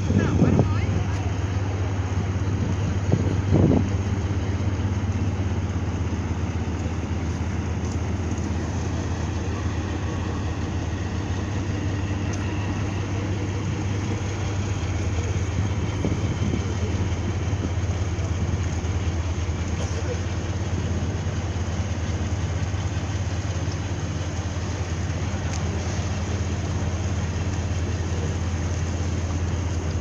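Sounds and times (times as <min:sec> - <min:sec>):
ship diesel engine running: 0:00.0 - 0:30.0.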